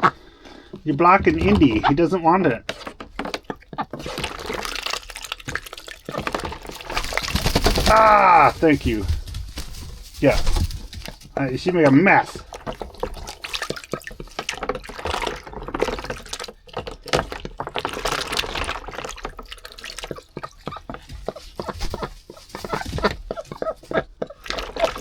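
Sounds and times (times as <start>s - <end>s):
ducks splashing in water: 0.0s - 25.0s
water dripping: 0.0s - 25.0s.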